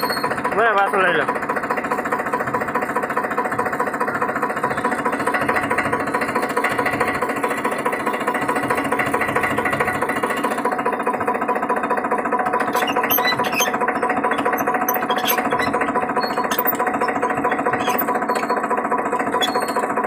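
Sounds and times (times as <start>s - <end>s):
tractor engine knocking: 0.0s - 20.0s.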